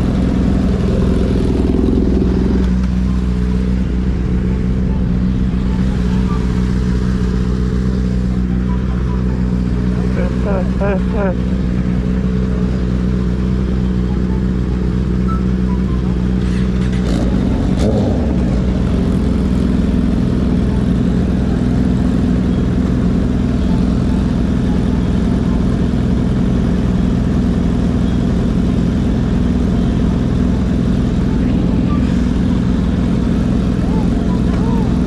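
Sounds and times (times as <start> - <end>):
motorcycle engines idling: 0.0 - 35.0.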